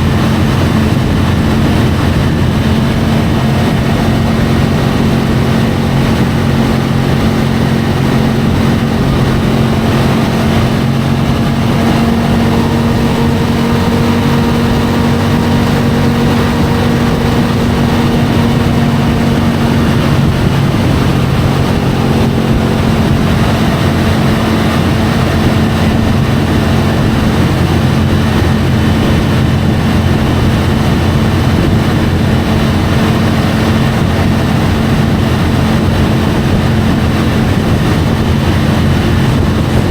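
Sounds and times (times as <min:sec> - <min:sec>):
motorcycle engine hum: 0:00.0 - 0:39.9
wind and road noise rushing: 0:00.0 - 0:39.9.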